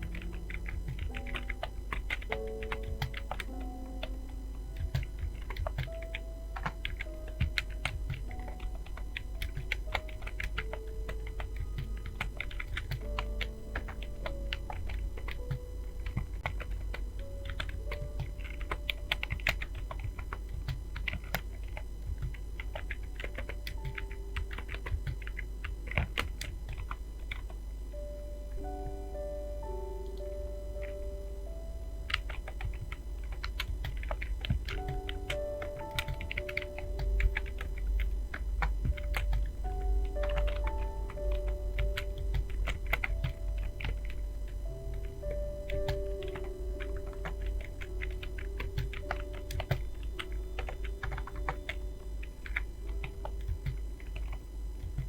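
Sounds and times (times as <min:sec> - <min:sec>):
computer keyboard typing: 0:00.0 - 0:55.0
soft background music: 0:00.0 - 0:55.0.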